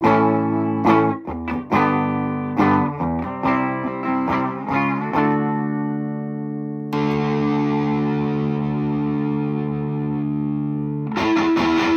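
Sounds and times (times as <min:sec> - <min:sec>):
distorted electric guitar chords: 0:00.0 - 0:11.9.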